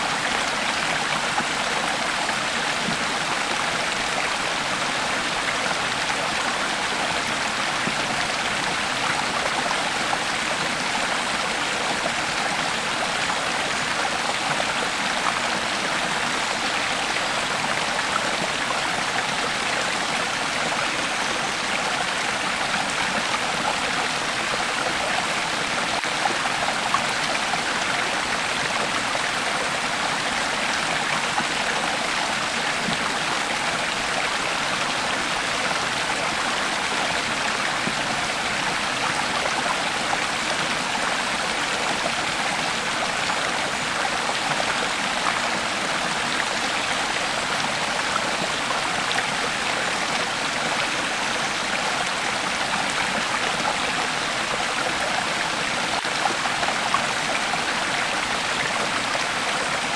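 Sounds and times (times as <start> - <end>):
creek water babbling over stones: 0.0 - 59.9.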